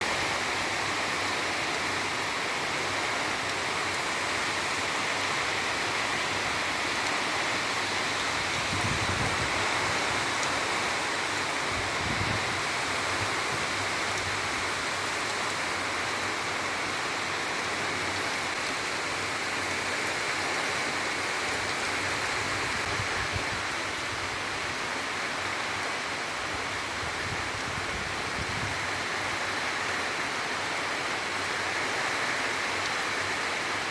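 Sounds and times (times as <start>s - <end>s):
heavy rain pouring: 0.0s - 33.9s
low gusts of wind: 0.0s - 33.9s.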